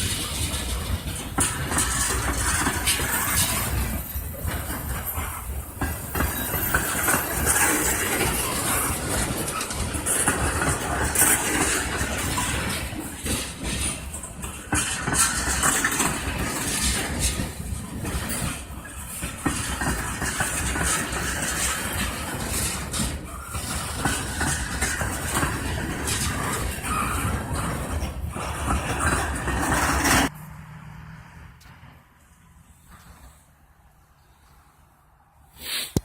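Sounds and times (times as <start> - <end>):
freight train wheels rumbling on rails: 0.0 - 30.4.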